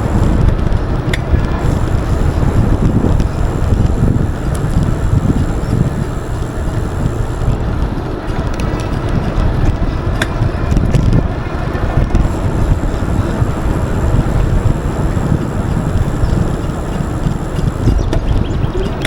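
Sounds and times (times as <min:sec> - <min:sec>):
sharp clicks from bike pedals: 0:00.0 - 0:19.0
wind buffeting microphone: 0:00.0 - 0:19.0.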